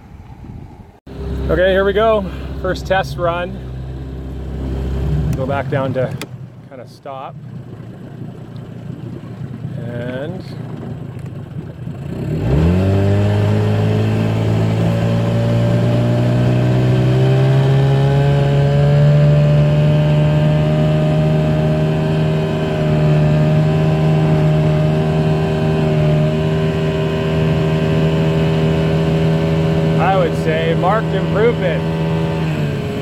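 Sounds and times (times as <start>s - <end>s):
outboard motor revving: 1.1s - 33.0s.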